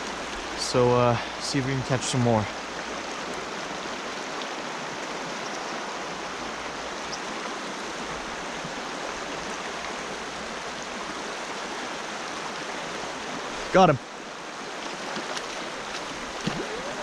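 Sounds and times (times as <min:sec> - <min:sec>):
river running over rocks: 0:00.0 - 0:17.0.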